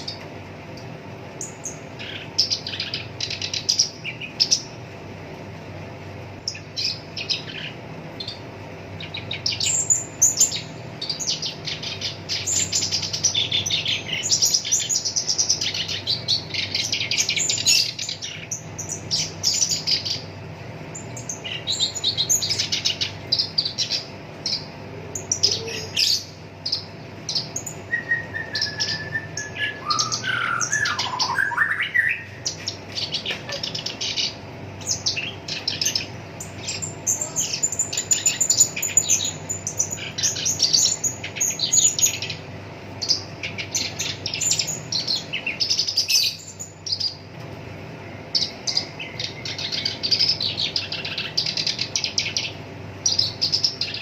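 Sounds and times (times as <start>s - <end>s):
low background hum: 0.0s - 54.0s
warbler chattering song: 0.0s - 54.0s.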